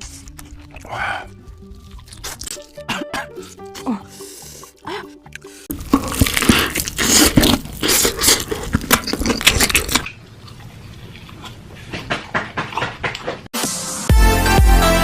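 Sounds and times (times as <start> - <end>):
chewing and crunching: 0.0 - 13.2.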